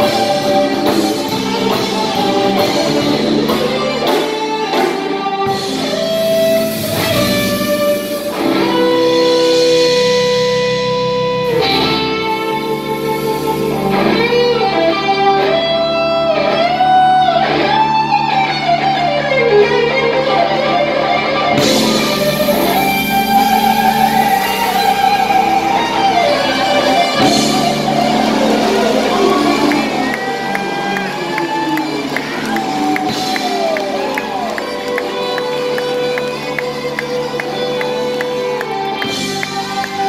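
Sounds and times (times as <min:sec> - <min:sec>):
bass guitar: 0:00.0 - 0:40.0
drums: 0:00.0 - 0:40.0
electric guitar lead: 0:00.0 - 0:40.0.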